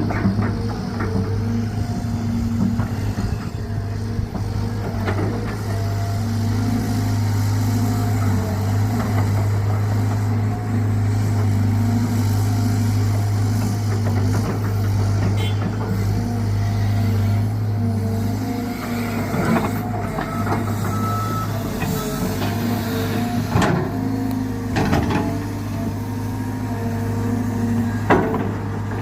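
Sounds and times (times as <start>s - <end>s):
excavator diesel engine droning: 0.0s - 29.0s.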